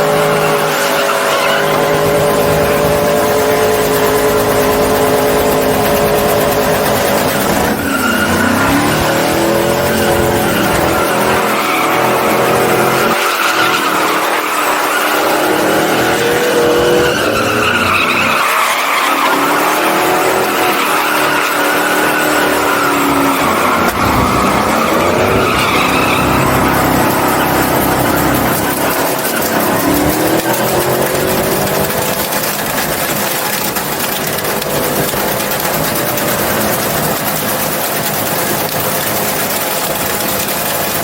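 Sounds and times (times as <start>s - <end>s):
tires squealing on pavement: 0.0s - 41.0s
truck engine revving: 0.0s - 41.0s.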